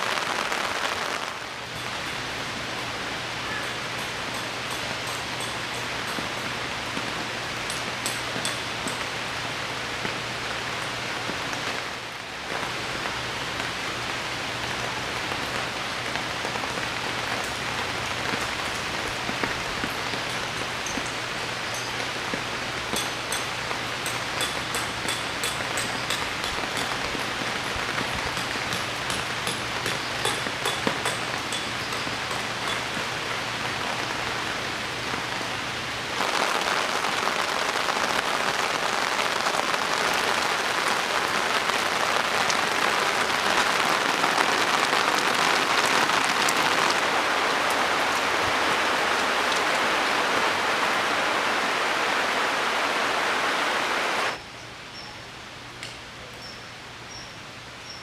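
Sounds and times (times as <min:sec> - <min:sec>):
raindrops pattering: 0:00.0 - 0:54.4
heavy rain: 0:00.0 - 0:58.0.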